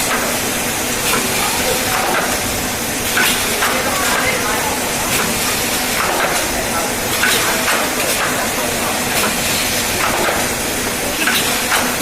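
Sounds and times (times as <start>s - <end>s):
packaging machine hissing: 0.0s - 12.0s
machine clicking: 1.0s - 12.0s.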